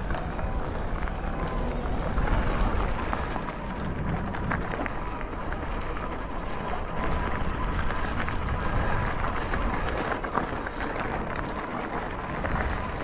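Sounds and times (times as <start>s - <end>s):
tyres crunching on trail: 0.0s - 13.0s
wind rumbling on microphone: 0.0s - 13.0s.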